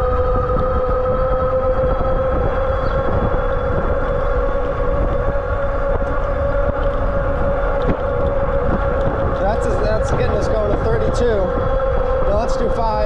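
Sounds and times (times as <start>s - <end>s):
e-bike drive whine: 0.0s - 13.0s
wind rumble on microphone: 0.0s - 13.0s.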